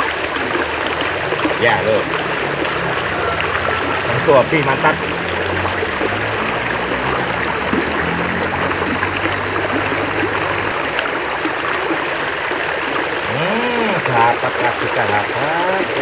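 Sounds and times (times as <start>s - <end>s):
river flowing over rocks: 0.0s - 16.0s.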